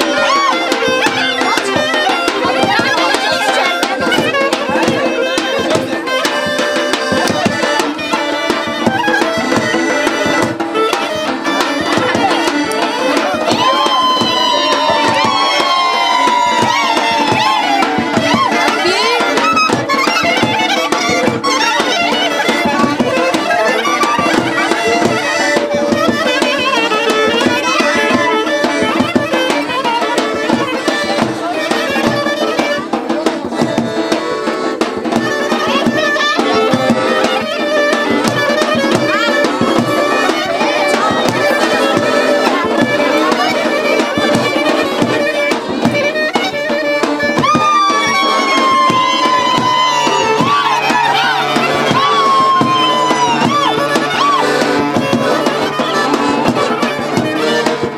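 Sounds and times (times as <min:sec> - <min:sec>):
driving drum beat: 0:00.0 - 0:57.9
ornamented lead melody: 0:00.0 - 0:57.9.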